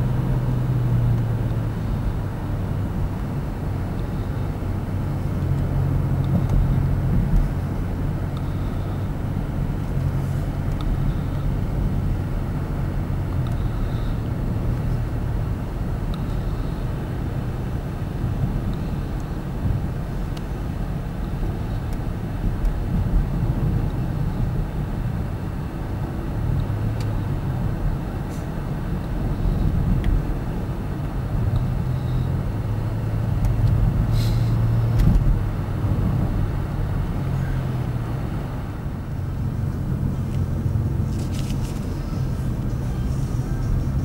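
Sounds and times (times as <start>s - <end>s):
car engine hum: 0.0s - 44.0s
road noise rumble: 0.0s - 44.0s.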